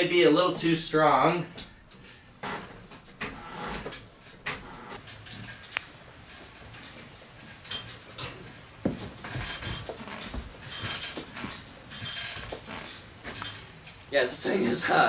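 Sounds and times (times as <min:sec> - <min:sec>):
knocks creaks and shuffling: 0:00.0 - 0:15.0.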